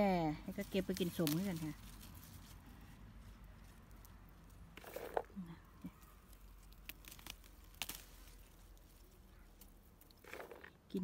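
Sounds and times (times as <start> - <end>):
bush rustling and crackling: 0.3 - 11.0.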